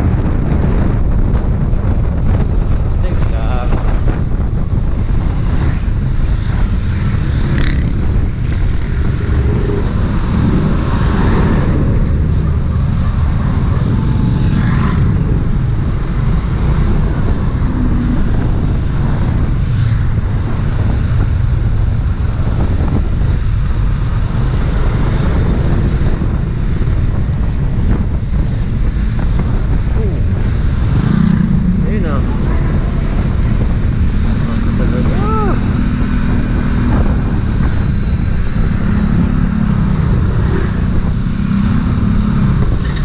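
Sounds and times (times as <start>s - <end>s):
road noise: 0.0s - 43.0s
wind noise on microphone: 0.0s - 43.0s.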